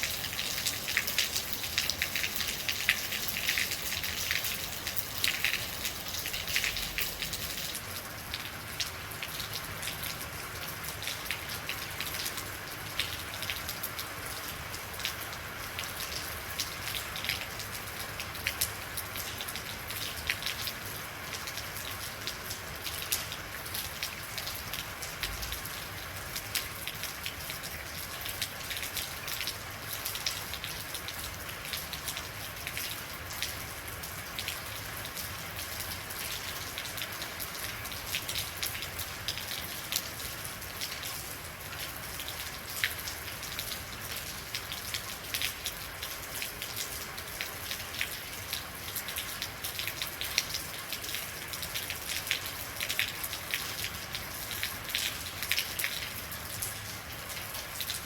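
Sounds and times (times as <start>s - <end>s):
rain hiss: 0.0s - 58.0s
rain pattering on hard surface: 0.0s - 58.0s.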